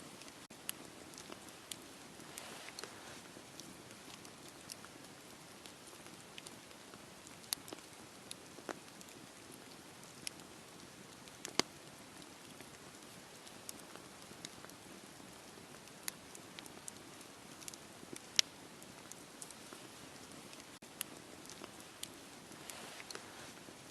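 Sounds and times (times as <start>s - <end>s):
wood fire crackling and popping: 0.0s - 23.9s.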